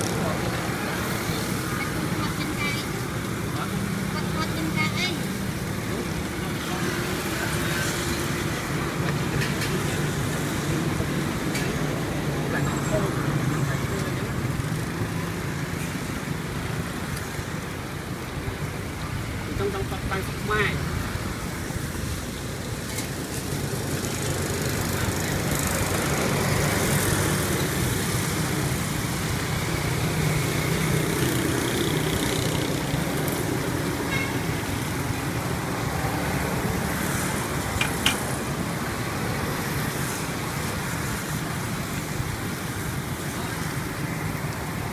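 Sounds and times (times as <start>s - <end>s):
street traffic noise: 0.0s - 44.9s.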